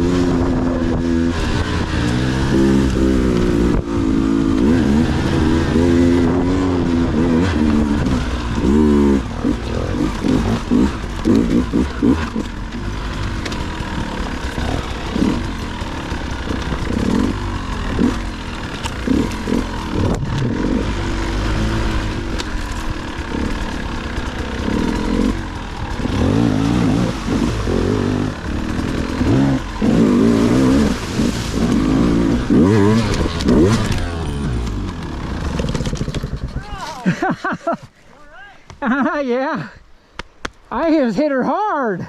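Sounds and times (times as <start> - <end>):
dirt bike engine revving: 0.0 - 37.8.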